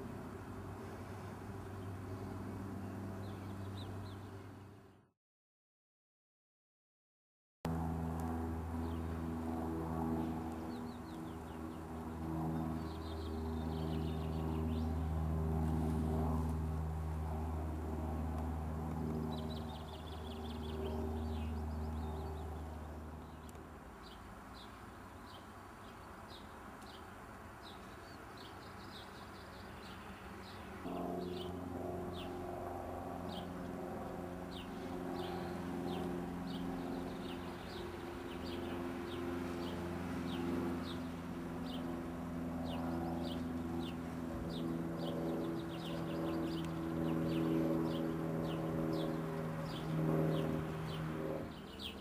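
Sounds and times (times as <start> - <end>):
low mechanical hum: 0.0 - 5.0, 7.7 - 52.0.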